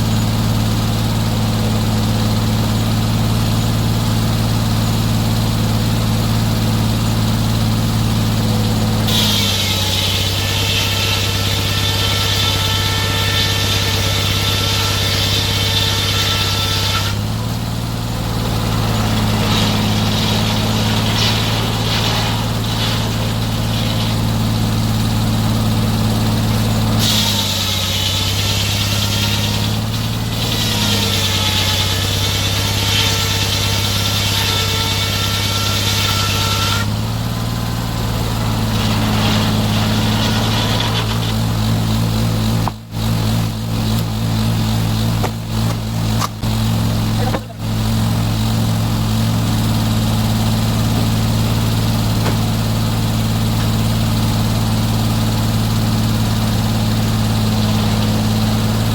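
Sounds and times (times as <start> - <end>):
sawmill engine running: 0.0 - 58.9.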